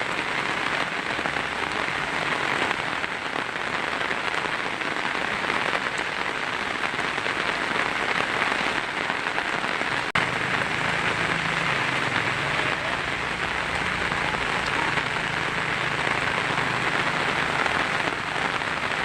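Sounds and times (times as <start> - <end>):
heavy rain on a tin roof: 0.0 - 19.0.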